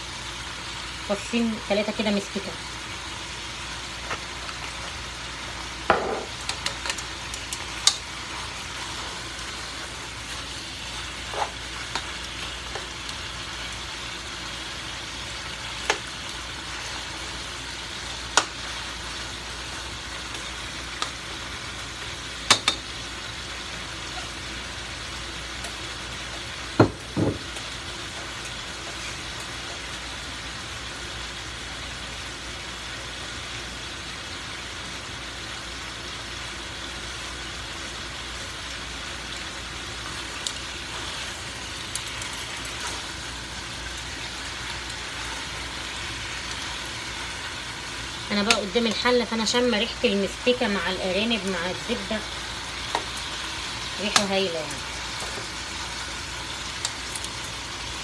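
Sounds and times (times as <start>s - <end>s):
meat sizzling in butter: 0.0s - 58.0s.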